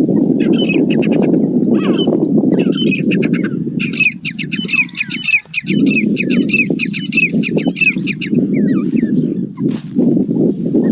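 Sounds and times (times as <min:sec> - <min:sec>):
francolin calling: 0:00.0 - 0:10.9.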